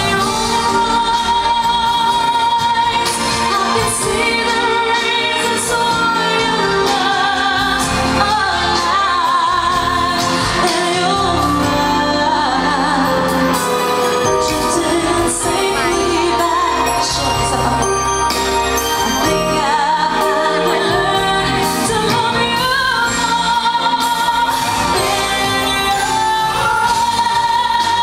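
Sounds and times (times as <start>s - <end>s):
backing music: 0.0s - 28.0s
woman singing pop song: 0.0s - 28.0s.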